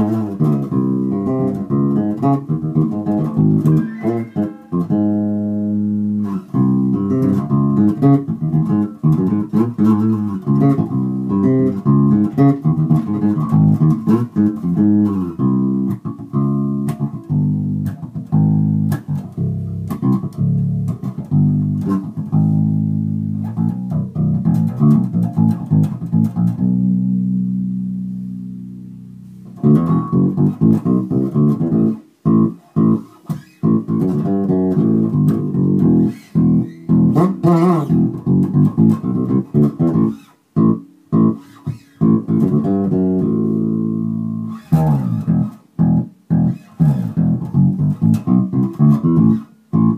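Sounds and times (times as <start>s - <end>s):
electric bass plucked notes: 0.0s - 49.9s.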